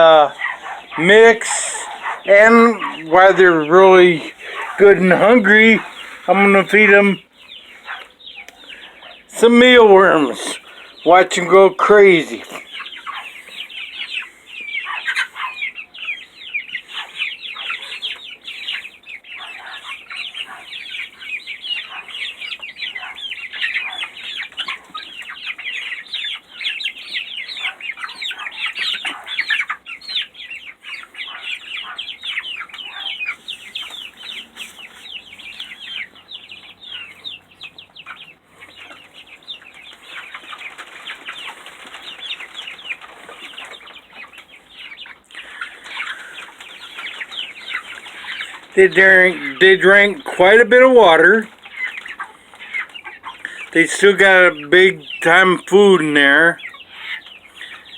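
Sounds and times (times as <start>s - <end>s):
chickens calling excitedly: 0.0s - 57.9s.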